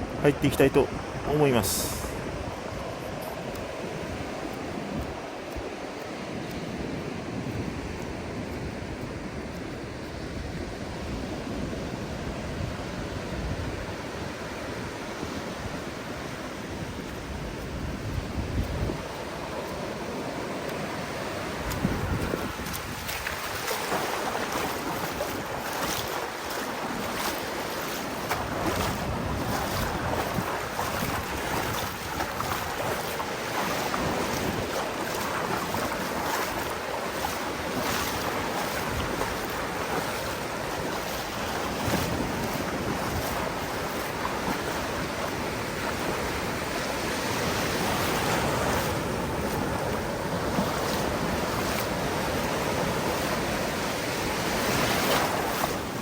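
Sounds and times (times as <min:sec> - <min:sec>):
surf breaking on a beach: 0:00.0 - 0:56.0
wind buffeting the microphone: 0:00.0 - 0:56.0.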